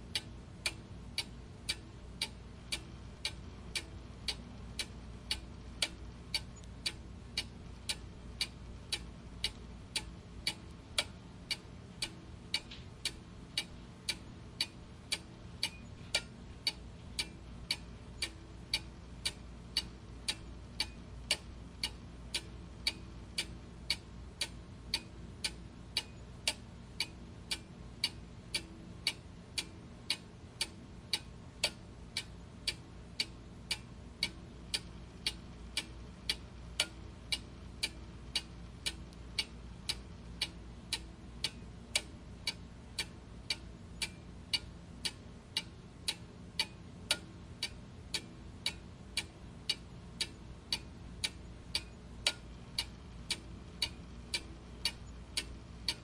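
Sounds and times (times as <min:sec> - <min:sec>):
faint low hum: 0:00.0 - 0:56.0
clock ticking: 0:00.1 - 0:56.0.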